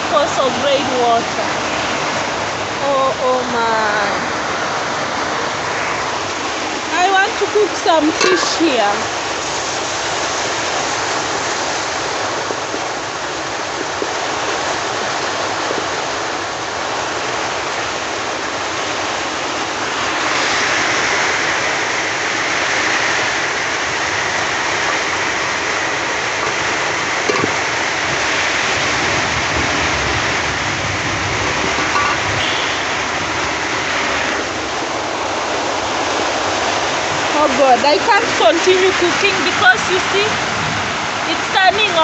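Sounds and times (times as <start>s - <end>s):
heavy rain pouring: 0.0s - 42.0s
rainwater running: 0.0s - 42.0s.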